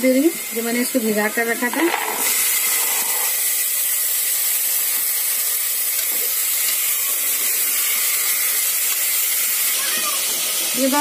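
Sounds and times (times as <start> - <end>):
peas sizzling in hot oil: 0.0 - 11.0.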